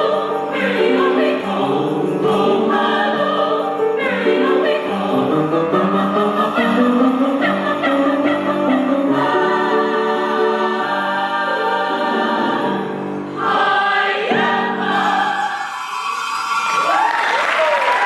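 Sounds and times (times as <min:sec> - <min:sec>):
choir singing a carol: 0:00.0 - 0:16.0.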